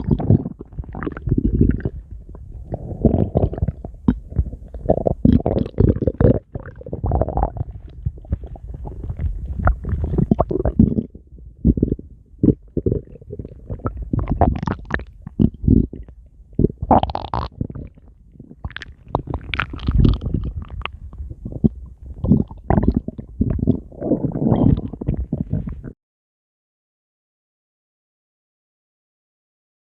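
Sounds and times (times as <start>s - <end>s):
stomach growling and gurgling: 0.0s - 26.0s.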